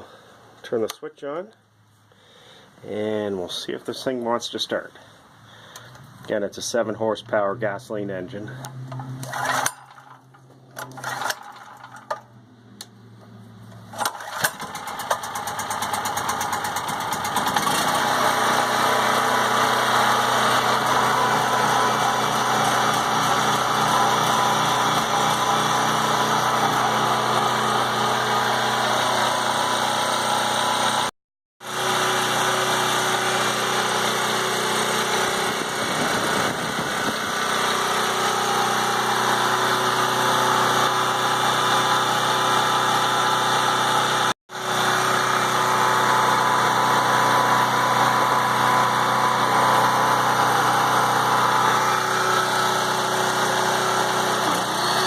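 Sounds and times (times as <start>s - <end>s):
generator engine running: 8.4s - 55.0s.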